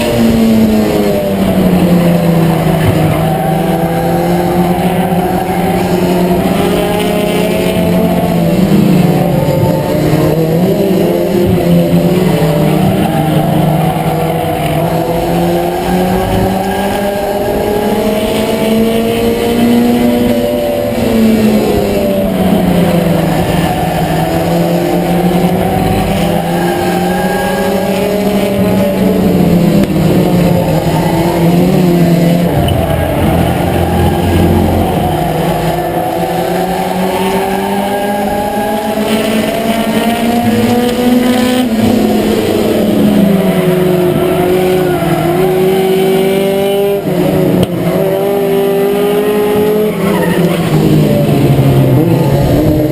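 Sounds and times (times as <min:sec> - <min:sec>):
tire squeal: 0:00.0 - 0:47.4, 0:48.1 - 0:52.9
race car engine revving: 0:00.0 - 0:52.9.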